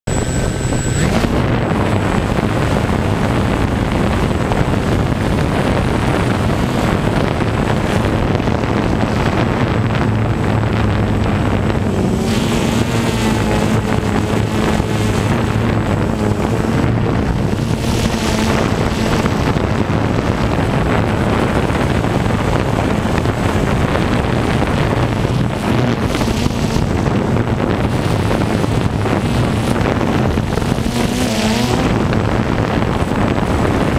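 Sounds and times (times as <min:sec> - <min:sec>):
drone motors humming: 0:00.0 - 0:33.9
wind rushing over microphone: 0:00.0 - 0:33.9.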